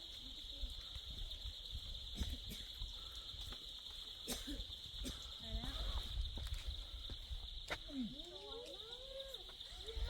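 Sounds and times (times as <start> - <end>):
insect chorus: 0.0 - 10.0.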